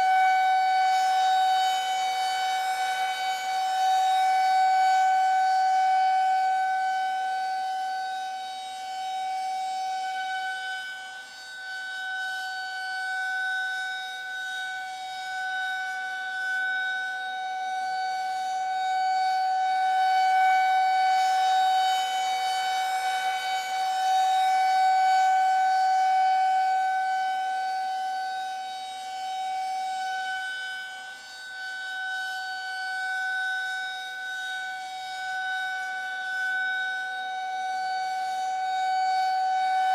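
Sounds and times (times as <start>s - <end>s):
air-raid siren steady tone: 0.0s - 39.9s.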